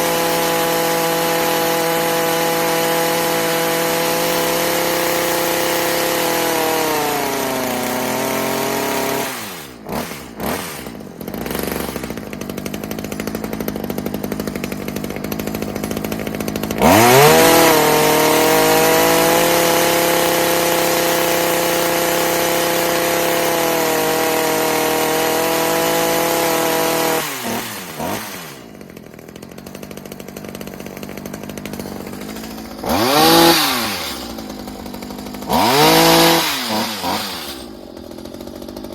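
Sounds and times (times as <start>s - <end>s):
hedge trimmer engine revving: 0.0s - 38.9s.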